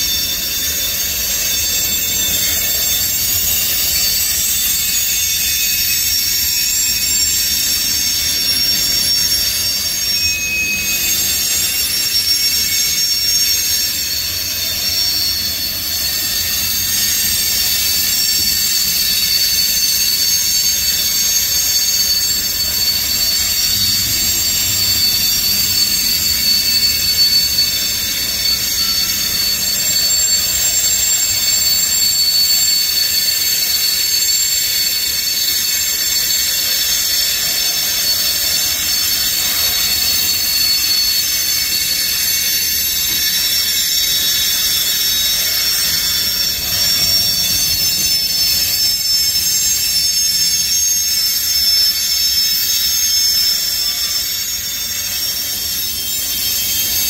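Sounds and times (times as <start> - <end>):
high-pitched wheel squeal: 0.0 - 57.0.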